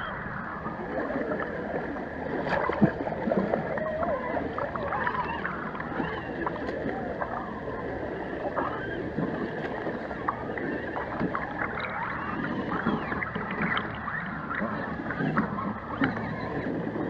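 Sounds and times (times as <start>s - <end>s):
creek water gurgling: 0.0s - 17.0s.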